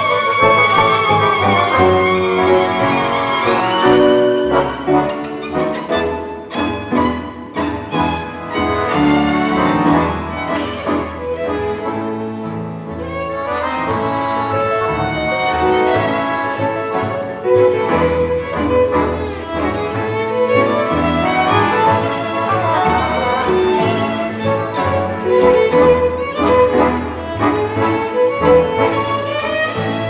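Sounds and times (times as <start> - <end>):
accordion: 0.0 - 30.0
piano: 0.0 - 30.0
violin melody: 0.0 - 30.0.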